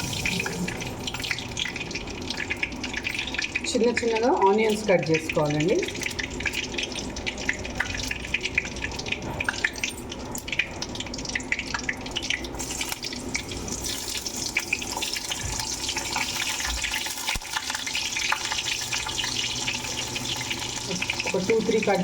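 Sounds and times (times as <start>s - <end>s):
hot oil sizzling in a pan: 0.0s - 22.0s.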